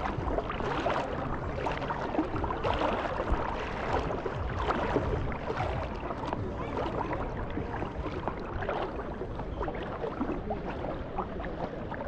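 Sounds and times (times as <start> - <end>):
surf: 0.0 - 12.0
wind: 0.0 - 12.0.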